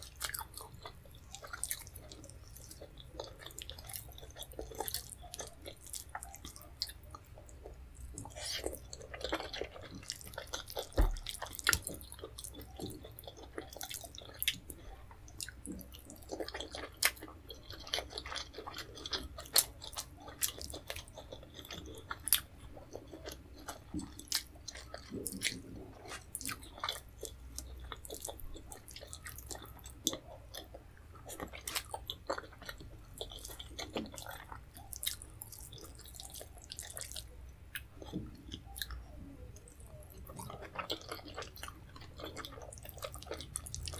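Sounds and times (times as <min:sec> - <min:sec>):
close chewing with lip smacks: 0:00.0 - 0:43.9.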